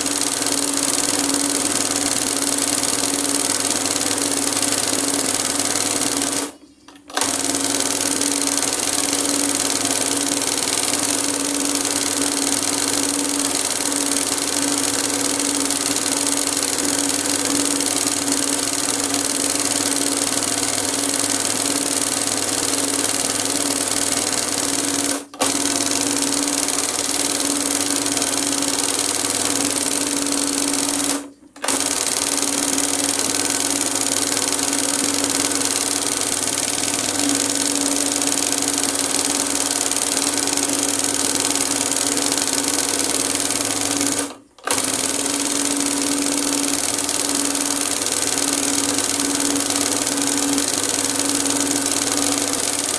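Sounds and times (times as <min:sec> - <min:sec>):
embroidery machine whirring: 0:00.0 - 0:52.9.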